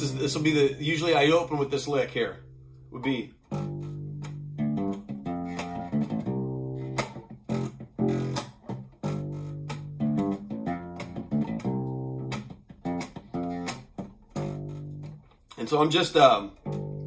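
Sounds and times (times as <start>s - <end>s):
acoustic bass guitar plucked: 0.0s - 17.0s.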